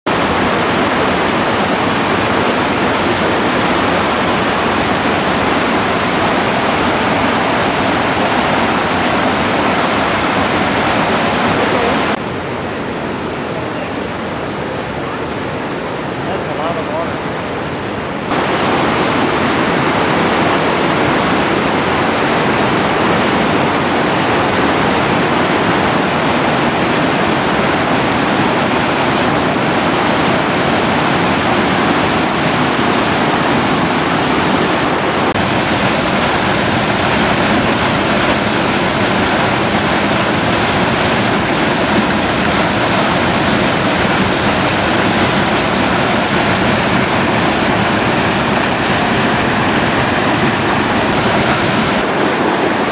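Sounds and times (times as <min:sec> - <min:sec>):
water rushing over boulders: 0:00.0 - 0:52.9.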